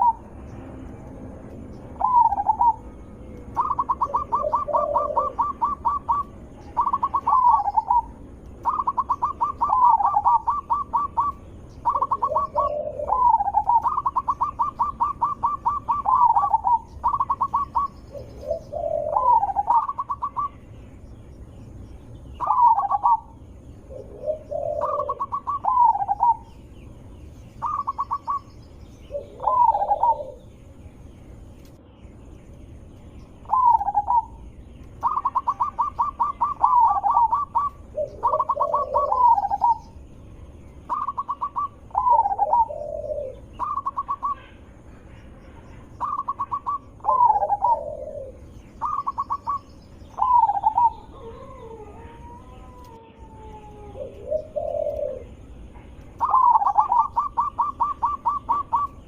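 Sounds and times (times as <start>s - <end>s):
doves cooing: 0.0s - 0.4s, 1.9s - 20.7s, 22.2s - 30.8s, 33.3s - 40.1s, 40.7s - 59.0s
deep dove coos: 2.0s - 2.9s, 3.5s - 20.6s, 22.4s - 26.6s, 27.6s - 30.5s, 33.4s - 34.4s, 35.0s - 40.0s, 40.9s - 55.5s, 56.1s - 59.0s.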